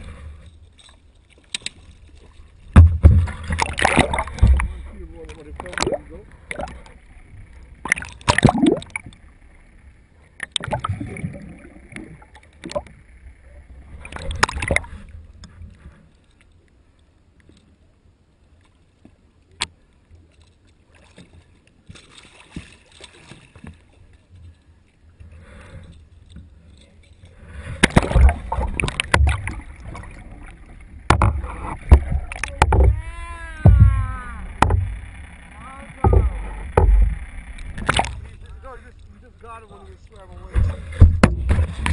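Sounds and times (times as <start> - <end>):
sea water rushing and splashing: 0.0 - 16.2, 18.9 - 41.9.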